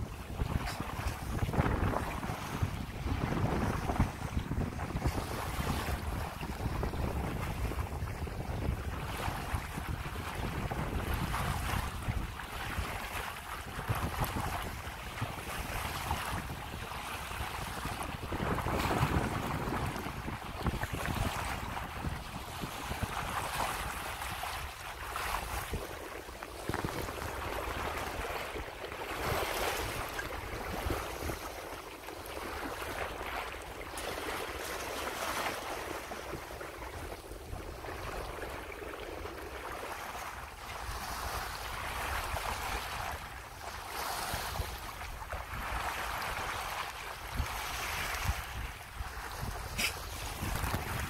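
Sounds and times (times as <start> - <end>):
water splashing along boat hull: 0.0 - 51.0
wind rumble on microphone: 0.0 - 51.0.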